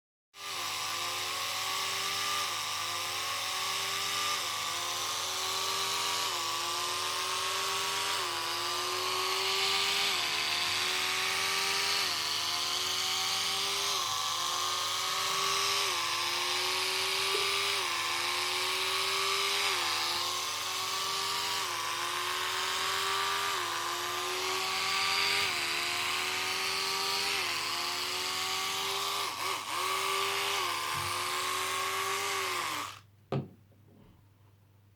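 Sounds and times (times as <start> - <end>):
toothbrush buzzing whine: 0.4 - 33.0.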